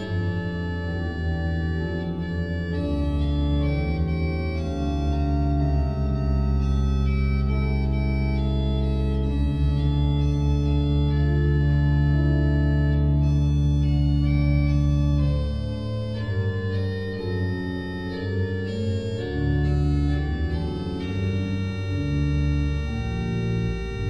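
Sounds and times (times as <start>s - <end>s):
organ music: 0.0s - 24.0s.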